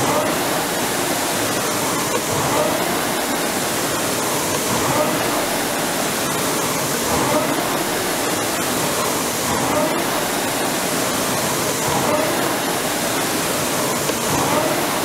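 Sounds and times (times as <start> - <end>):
rowing machine flywheel whooshing: 0.0 - 15.0.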